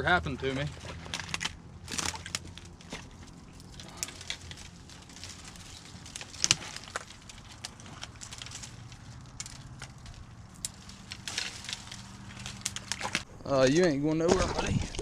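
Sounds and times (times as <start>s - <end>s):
rustling: 0.0s - 13.3s.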